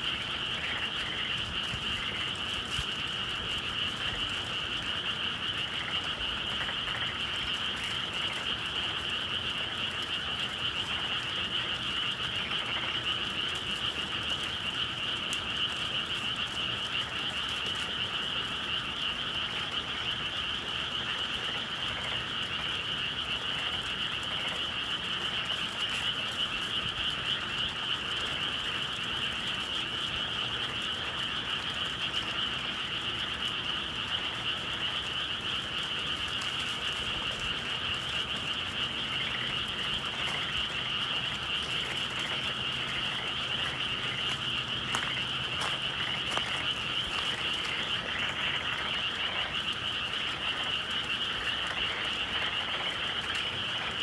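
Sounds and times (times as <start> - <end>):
chorus of frogs calling: 0.0 - 54.0.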